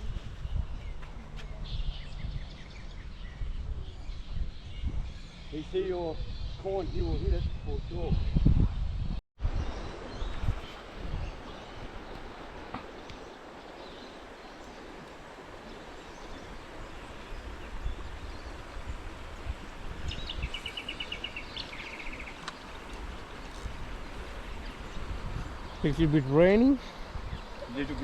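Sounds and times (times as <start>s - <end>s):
wind buffeting the microphone: 0.0s - 28.0s.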